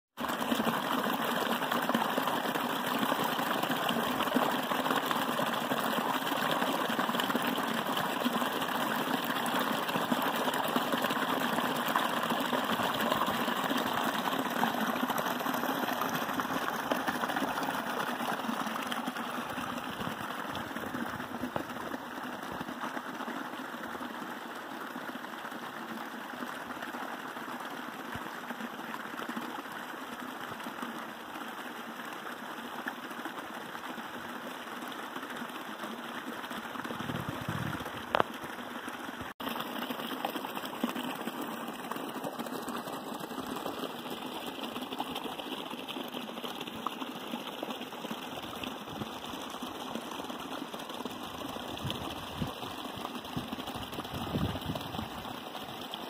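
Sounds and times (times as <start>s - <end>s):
creek water rushing and splashing: 0.2s - 56.0s.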